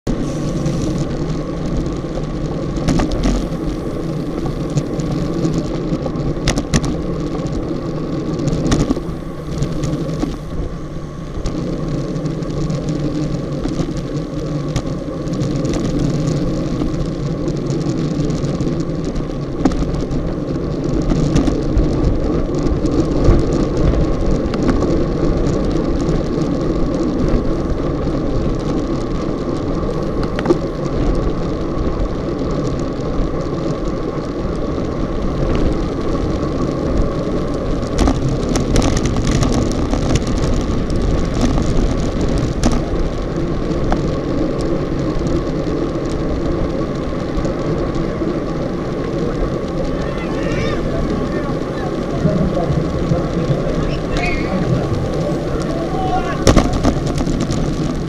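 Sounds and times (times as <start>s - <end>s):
bicycle tyre noise: 0.0s - 58.0s
wind rushing over microphone: 0.0s - 58.0s.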